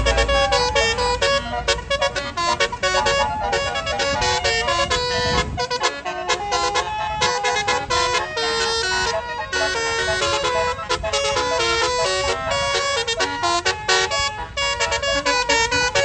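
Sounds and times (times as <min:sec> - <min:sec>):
bus horn playing melody: 0:00.0 - 0:16.0
engine rumble: 0:00.0 - 0:16.0.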